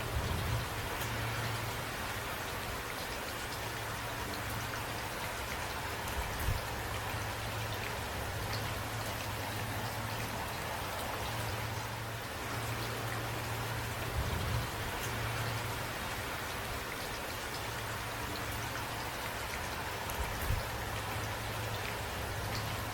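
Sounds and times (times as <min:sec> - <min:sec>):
raindrops striking a surface: 0:00.0 - 0:22.9
steady rain: 0:00.0 - 0:22.9.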